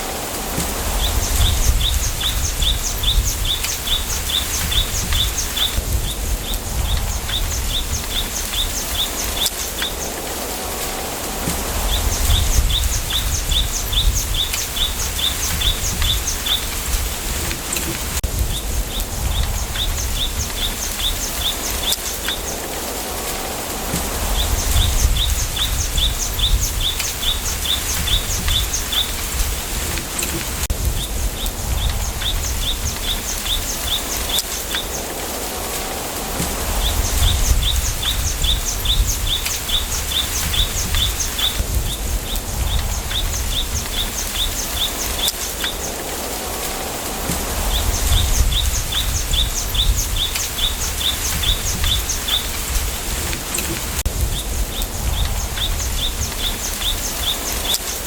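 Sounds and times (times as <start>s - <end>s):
wind through bamboo leaves: 0.0s - 58.0s.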